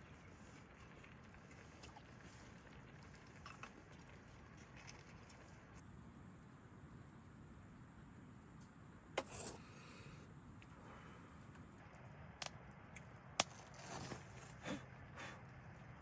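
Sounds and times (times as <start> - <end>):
steady low background noise: 0.0 - 16.0.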